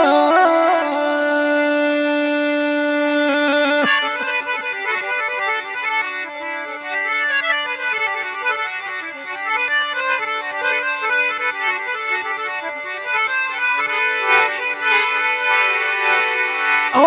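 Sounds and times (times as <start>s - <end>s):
accordion melody: 0.0s - 17.0s.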